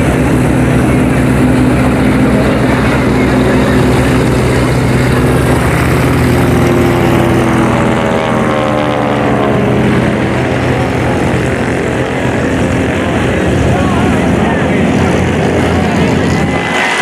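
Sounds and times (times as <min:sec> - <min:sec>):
radial engine and propeller running: 0:00.0 - 0:17.0.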